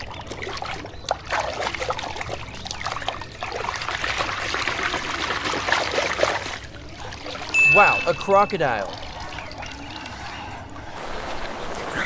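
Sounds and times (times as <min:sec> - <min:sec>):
water trickling over plastic toy: 0:00.0 - 0:10.9.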